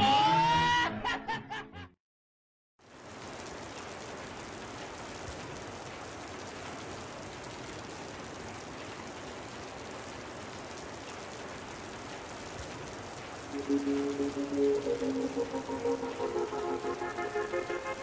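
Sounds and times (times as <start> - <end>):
rain hissing: 2.8 - 18.0.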